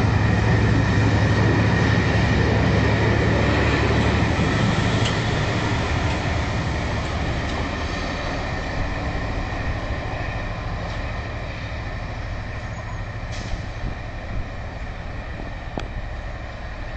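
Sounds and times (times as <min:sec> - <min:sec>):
diesel locomotive engine drone: 0:00.0 - 0:16.9.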